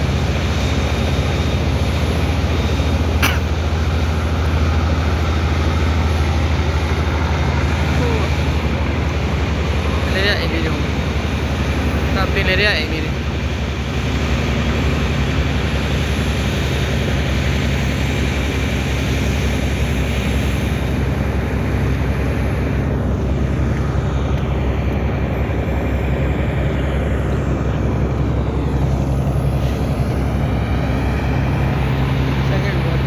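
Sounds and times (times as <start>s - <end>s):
boat engine droning: 0.0s - 33.0s
wind: 0.0s - 33.0s.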